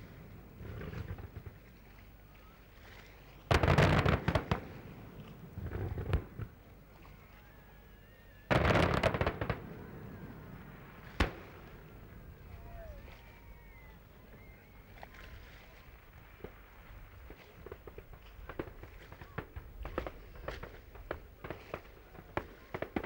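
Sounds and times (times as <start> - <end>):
crackling fireworks bangs: 0.0 - 1.8, 3.5 - 6.6, 8.5 - 14.8, 15.7 - 23.0
fireworks exploding: 0.0 - 1.8, 3.5 - 6.6, 8.5 - 15.0, 15.6 - 23.0.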